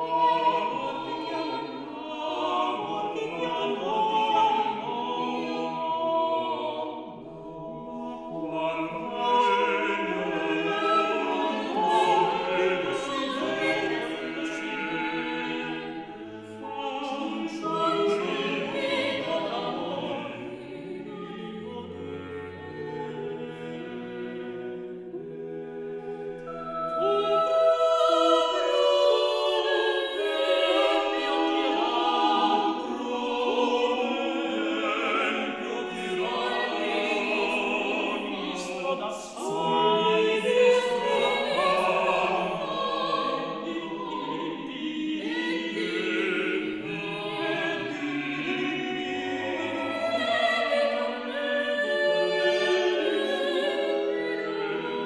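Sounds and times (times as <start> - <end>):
choir singing held notes: 0.0 - 55.0.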